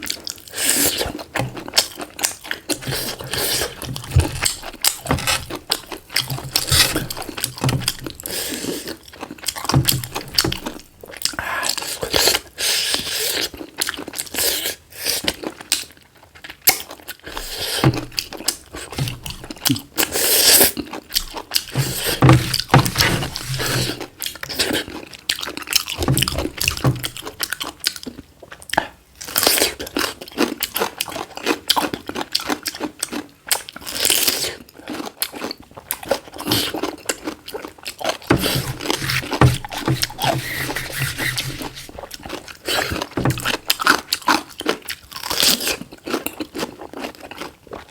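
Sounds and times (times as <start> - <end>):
crunchy chewing of chicken: 0.0 - 47.9.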